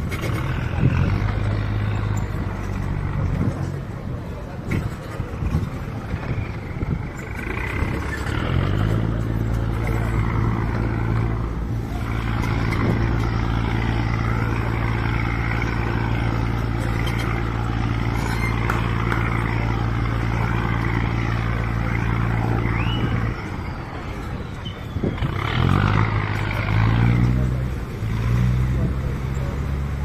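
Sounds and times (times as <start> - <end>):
engine revving up: 0.0 - 3.9, 4.8 - 24.4, 25.0 - 30.0
diesel boat engine running: 0.0 - 30.0.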